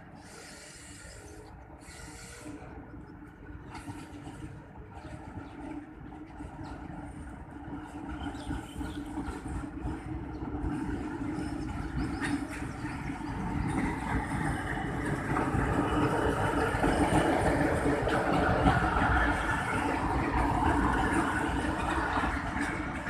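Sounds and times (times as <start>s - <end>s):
diesel locomotive engine hum: 0.0s - 23.0s
train rolling rumble: 0.0s - 23.0s.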